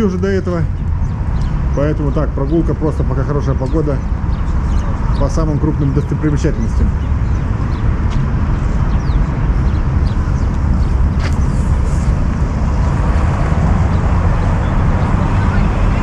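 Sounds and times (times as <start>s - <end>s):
low rumble of city noise: 0.0s - 16.0s.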